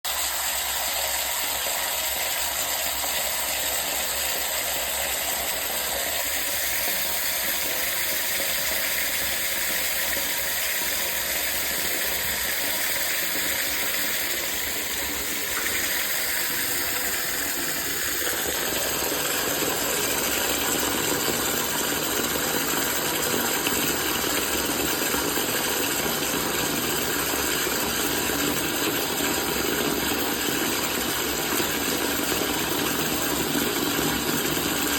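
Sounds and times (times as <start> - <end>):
water running from faucet: 0.1 - 34.9.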